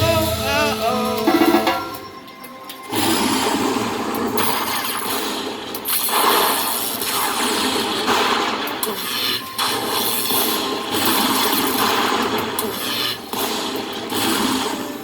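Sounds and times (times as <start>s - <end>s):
slot machines and casino din: 0.0s - 15.0s.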